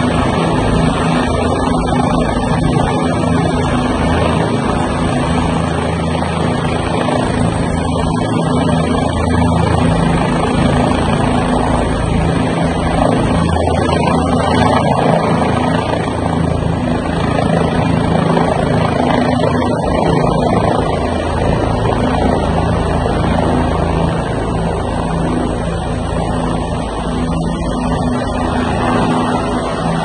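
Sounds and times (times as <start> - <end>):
helicopter rotor beat: 0.0 - 30.0
turbine engine noise: 0.0 - 30.0.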